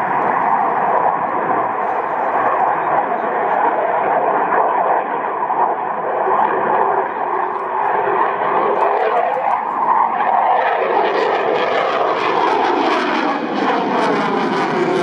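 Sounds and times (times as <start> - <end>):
jet passing at full power: 0.0 - 15.0.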